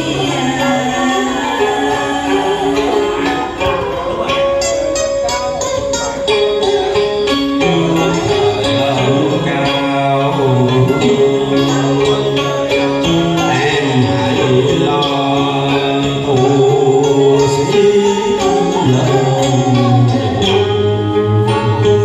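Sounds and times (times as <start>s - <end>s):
man singing through a microphone: 0.0s - 5.4s, 7.3s - 22.0s
instrumental backing with beat: 0.0s - 22.0s.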